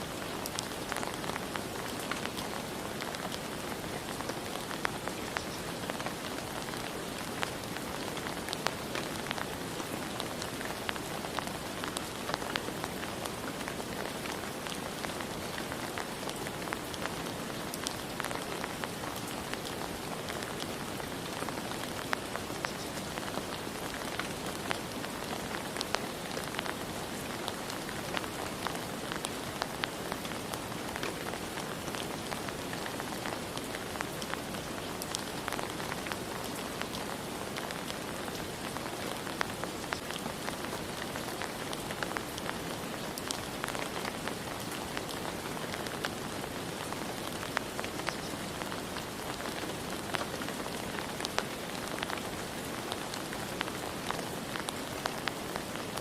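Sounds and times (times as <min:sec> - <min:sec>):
rain drops ticking on hard surface: 0:00.0 - 0:56.0.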